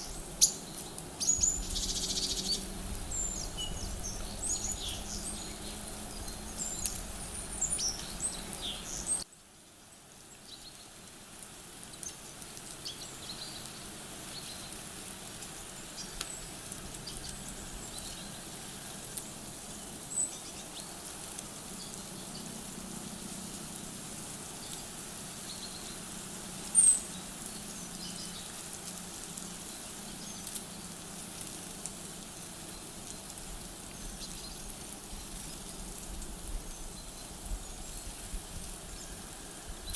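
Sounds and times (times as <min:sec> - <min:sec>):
small birds chirping: 0:00.0 - 0:09.3, 0:10.2 - 0:11.0, 0:11.7 - 0:39.9
steady outdoor hiss: 0:00.0 - 0:39.9.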